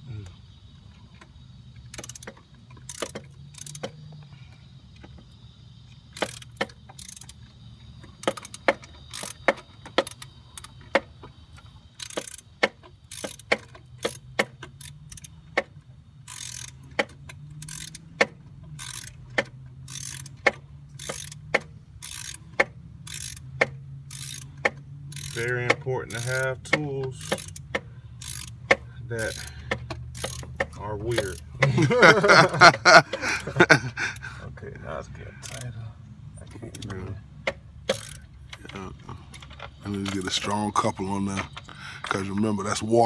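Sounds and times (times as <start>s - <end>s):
ratchet wrench clicking: 1.1s - 4.3s, 5.0s - 34.4s, 35.4s - 35.8s, 36.4s - 43.0s.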